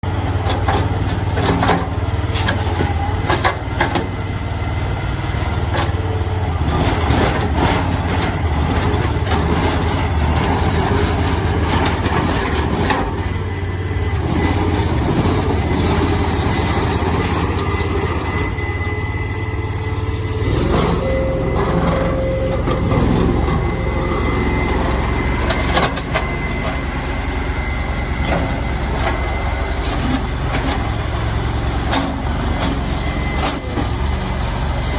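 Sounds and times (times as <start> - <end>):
gas engine running: 4.6 - 34.9.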